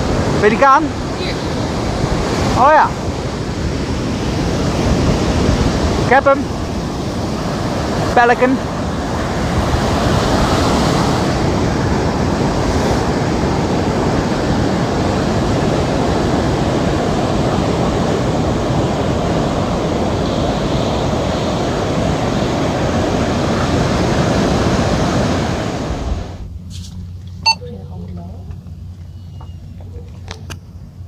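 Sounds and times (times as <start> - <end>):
surf waves breaking: 0.0 - 26.6.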